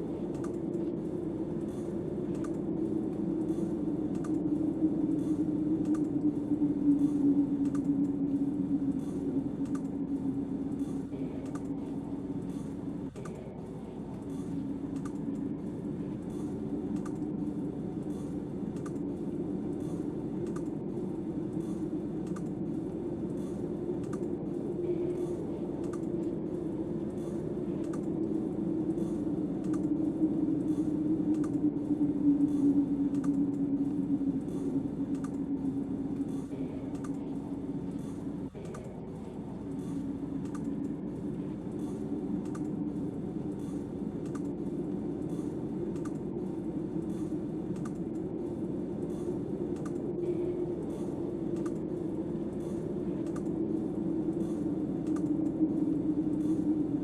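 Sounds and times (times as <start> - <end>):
snowstorm wind: 0.0 - 57.0.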